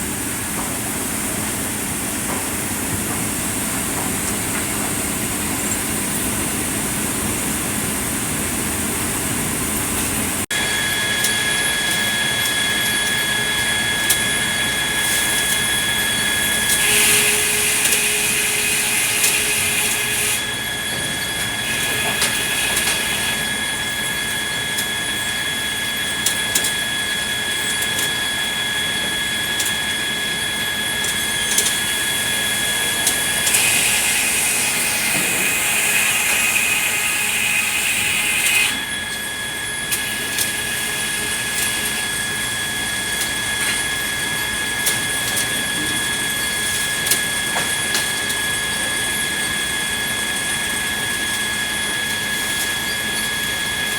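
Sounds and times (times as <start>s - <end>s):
sawmill saw whine: 0.0s - 53.9s.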